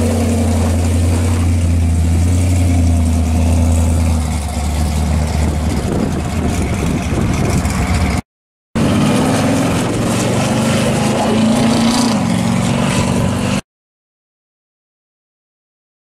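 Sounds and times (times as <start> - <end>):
car driving off: 0.0 - 8.2, 8.8 - 13.6
car engine rumbling: 0.0 - 8.2, 8.8 - 13.6.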